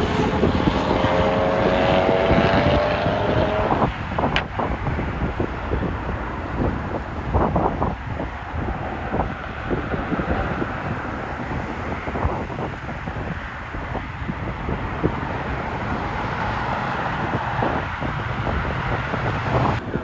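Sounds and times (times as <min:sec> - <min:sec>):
distant jet engines: 0:00.0 - 0:20.0
wind buffeting microphone: 0:00.0 - 0:20.0.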